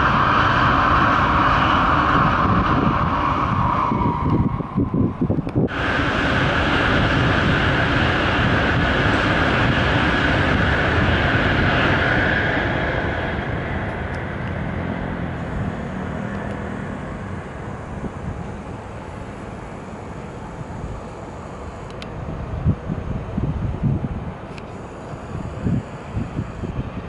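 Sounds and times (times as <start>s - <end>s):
high-speed train rushing: 0.0s - 27.0s.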